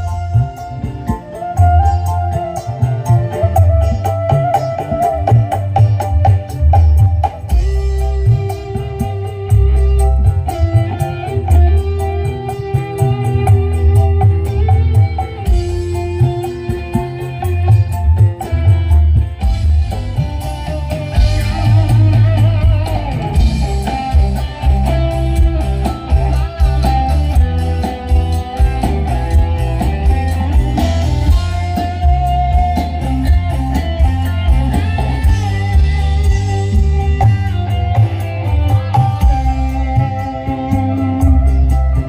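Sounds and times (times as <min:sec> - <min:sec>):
loud music with pounding bass: 0:00.0 - 0:42.0.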